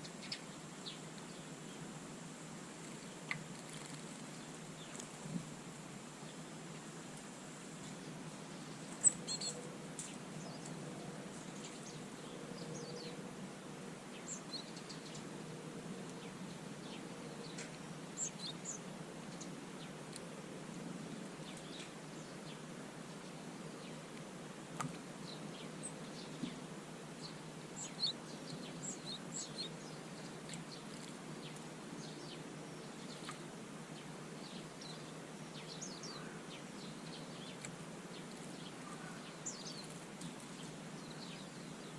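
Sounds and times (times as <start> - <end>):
small birds chirping: 0.0 - 13.3, 13.9 - 41.9
low background noise: 0.0 - 41.9.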